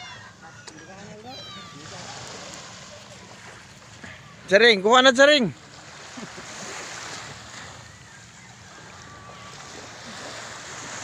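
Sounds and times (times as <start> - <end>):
small waves on sandy beach: 0.0 - 11.0.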